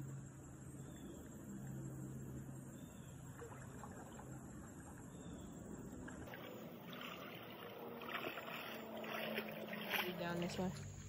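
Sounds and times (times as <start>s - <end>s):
shallow creek flowing: 0.0s - 11.0s.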